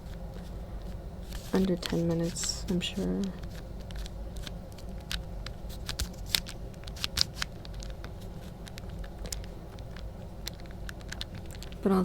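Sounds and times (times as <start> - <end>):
puzzle cube clicking: 1.4 - 11.8.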